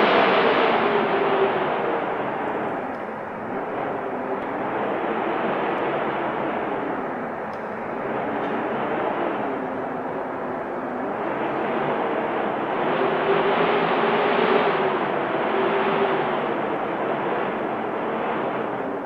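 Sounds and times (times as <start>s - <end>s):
faint low wind whistle: 0.0s - 19.0s.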